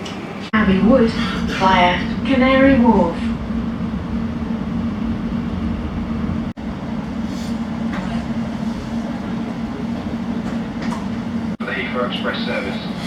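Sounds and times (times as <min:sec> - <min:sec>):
train hum inside carriage: 0:00.0 - 0:13.0.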